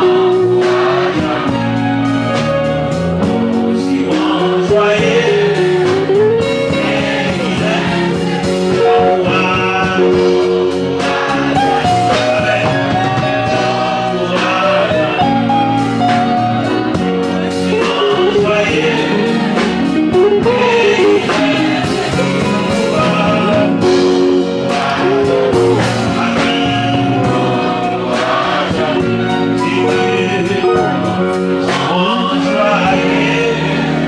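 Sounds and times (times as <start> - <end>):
instrumental accompaniment: 0.0 - 34.0
voices singing gospel song: 0.0 - 34.0.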